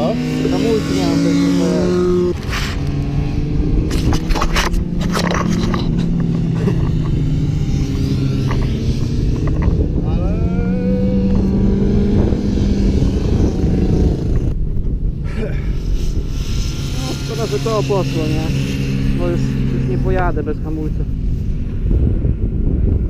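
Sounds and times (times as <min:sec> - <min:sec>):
racing motorcycles: 0:00.0 - 0:23.0
wind rumble on microphone: 0:00.0 - 0:23.0.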